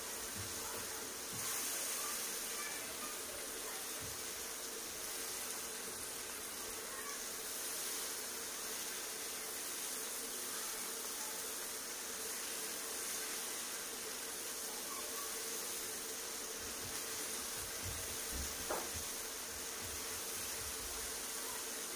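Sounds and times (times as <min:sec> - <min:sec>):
vegetables sizzling in oil: 0:00.0 - 0:21.9.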